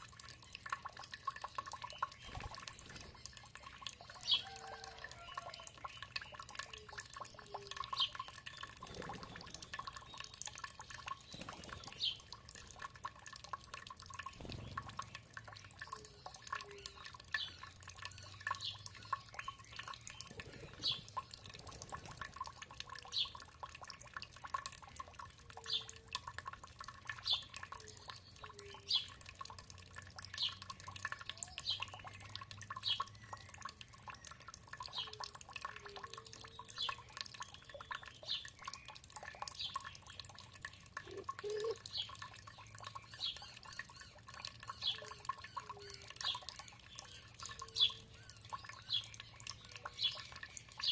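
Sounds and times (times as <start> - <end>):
faint water trickle: 0.0 - 50.9
water dripping: 0.0 - 50.9.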